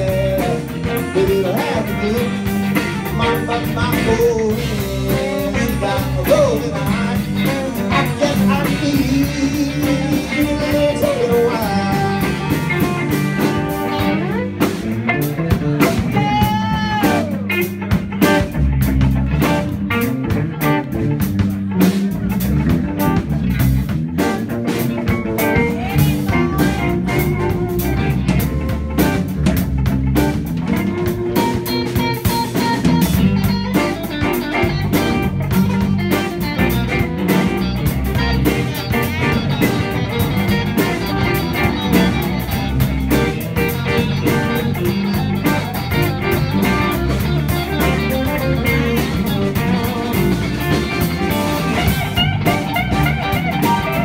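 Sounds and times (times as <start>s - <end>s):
band playing blues song: 0.0s - 54.0s
guitar: 0.0s - 54.0s
steady drum kit beat: 0.0s - 54.0s.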